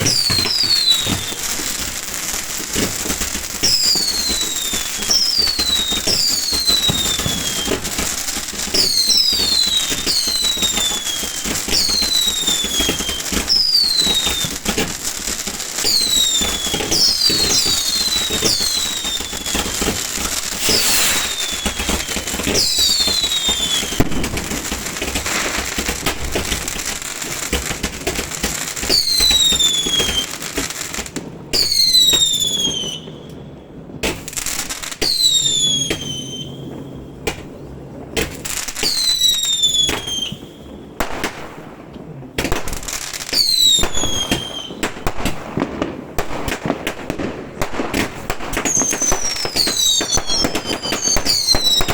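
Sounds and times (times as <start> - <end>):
falling firework whistles: 0.0 - 26.6, 28.6 - 30.4, 31.5 - 33.4, 34.1 - 37.0, 38.5 - 41.4, 42.9 - 51.9
fireworks crackling and banging: 0.0 - 51.9.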